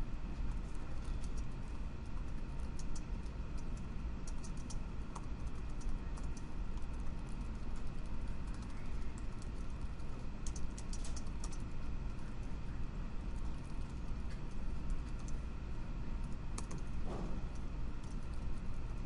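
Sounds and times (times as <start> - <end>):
low background hum: 0.0 - 19.0
computer keyboard typing: 0.5 - 12.5, 13.3 - 15.4, 16.2 - 19.0.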